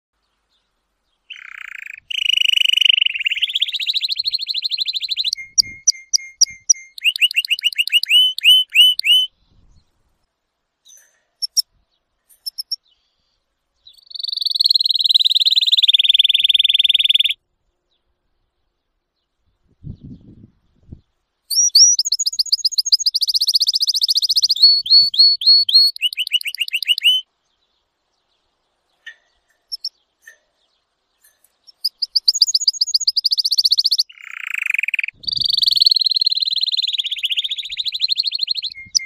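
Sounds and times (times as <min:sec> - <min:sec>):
canary singing trills and chirps: 0:00.4 - 0:09.9, 0:10.8 - 0:18.1, 0:21.4 - 0:39.0.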